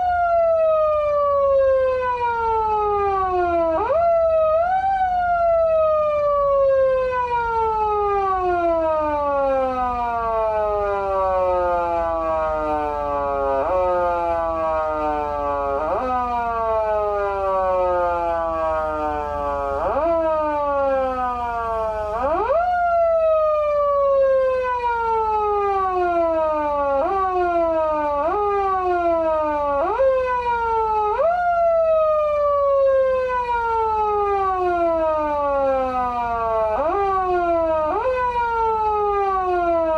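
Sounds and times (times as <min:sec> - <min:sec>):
foot siren wailing: 0:00.0 - 0:39.9.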